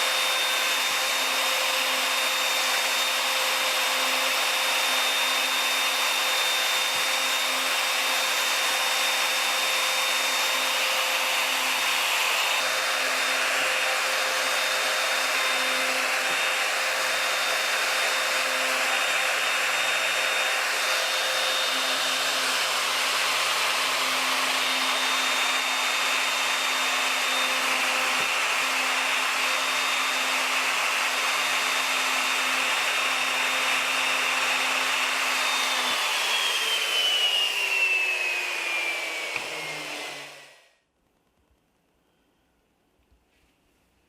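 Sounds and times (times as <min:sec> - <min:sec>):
electric motor whining: 0:00.0 - 0:40.6.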